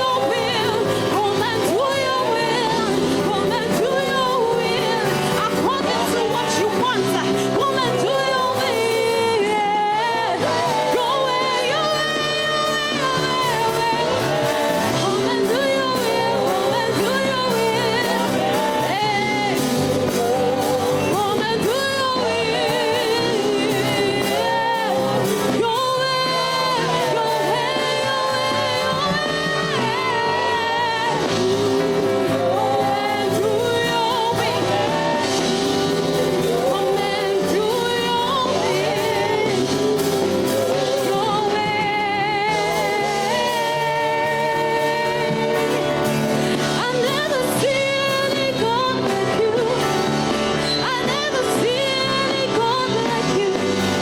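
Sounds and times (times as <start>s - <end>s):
sustained keyboard chords: 0.0s - 54.0s.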